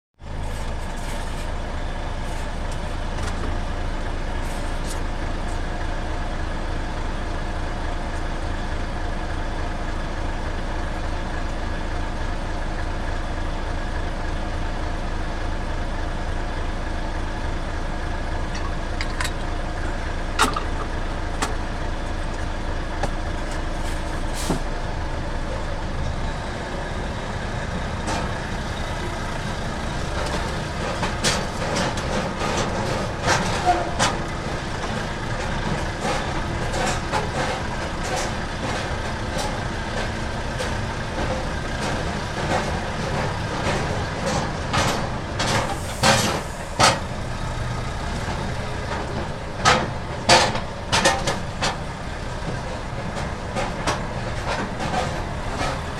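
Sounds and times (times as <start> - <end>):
diesel engine idling: 0.2 - 55.9.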